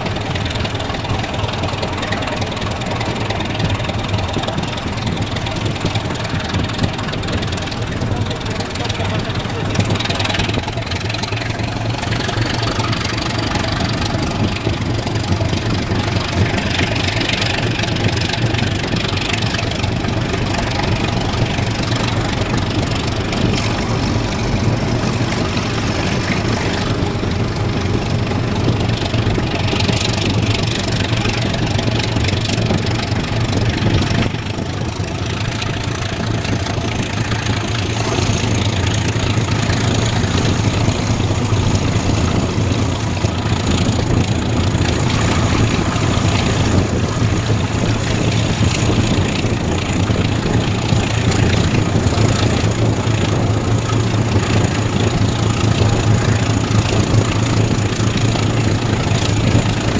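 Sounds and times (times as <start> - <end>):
locomotive engine running: 0.0 - 59.9.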